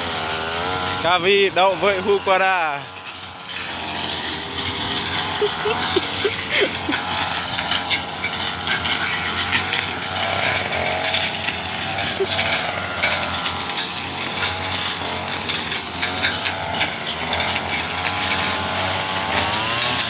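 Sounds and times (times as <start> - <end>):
brush cutter cutting stalks: 0.0 - 20.0.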